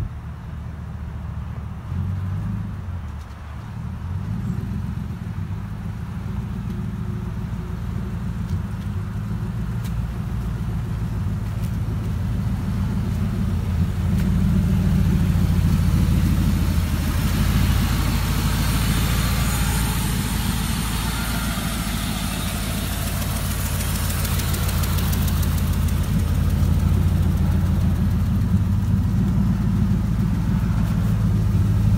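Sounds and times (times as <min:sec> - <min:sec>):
engine idling with low rumble: 0:02.6 - 0:31.9.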